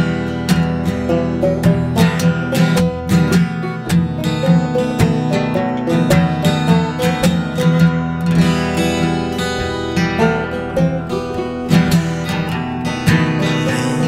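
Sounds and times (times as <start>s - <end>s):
acoustic guitar strumming: 0.0s - 14.0s
folk band playing: 0.0s - 14.0s.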